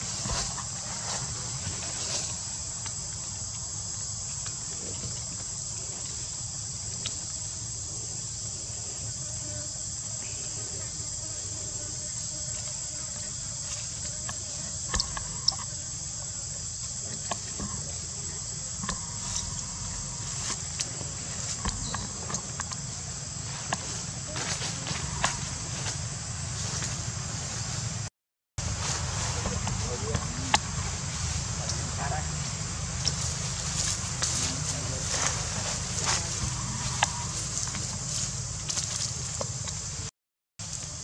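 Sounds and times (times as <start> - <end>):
insect chorus drone: 0.0 - 41.0.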